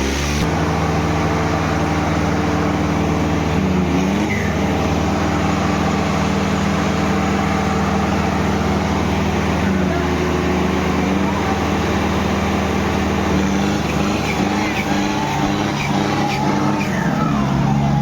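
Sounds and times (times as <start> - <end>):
tractor engine at high revs: 0.0 - 18.0.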